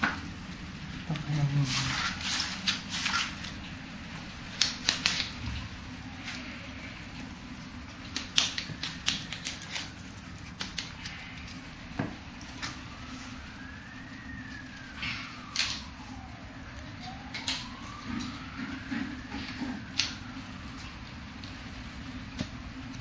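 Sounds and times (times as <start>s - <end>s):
faint siren: 0.0s - 23.0s.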